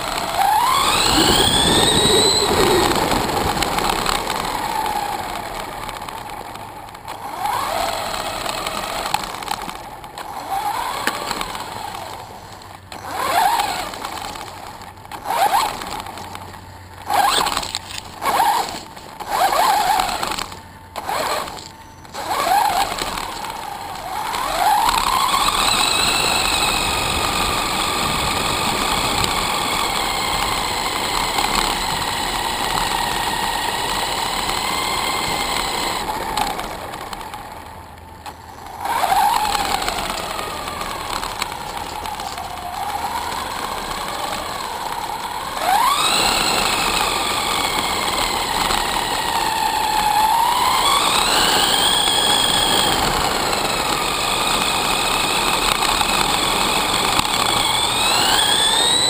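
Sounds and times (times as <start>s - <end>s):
electric motor whining: 0.0s - 59.0s
tyres crunching over gravel: 0.0s - 59.0s.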